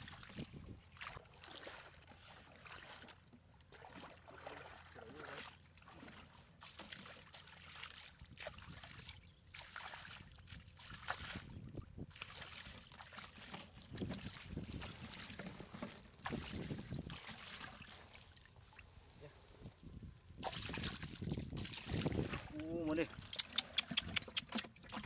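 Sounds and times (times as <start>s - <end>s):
shallow water splashing: 0.0s - 25.0s.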